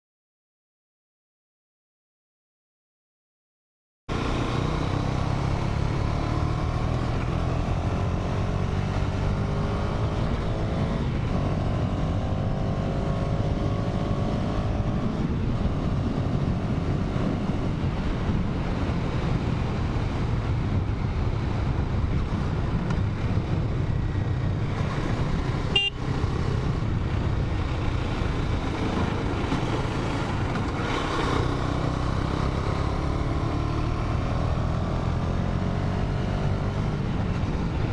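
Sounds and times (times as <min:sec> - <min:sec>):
motorcycle engine revving: 0:04.1 - 0:37.9.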